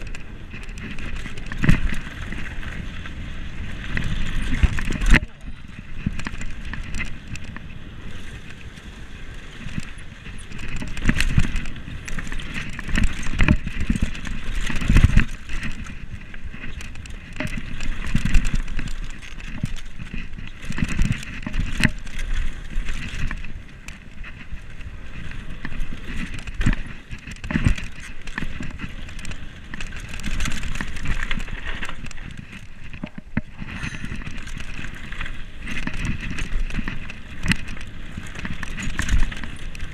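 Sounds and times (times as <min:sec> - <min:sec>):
bike clattering over bumps: 0:00.0 - 0:39.9
bike tyre noise on dirt: 0:00.0 - 0:39.9.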